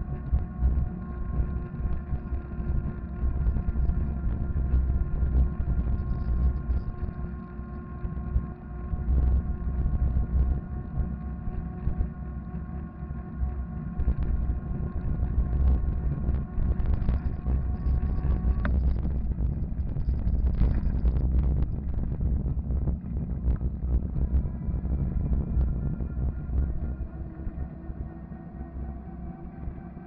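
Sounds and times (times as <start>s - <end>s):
wind buffeting microphone: 0.0s - 12.7s, 13.4s - 28.3s
electric motor whine: 0.0s - 30.0s.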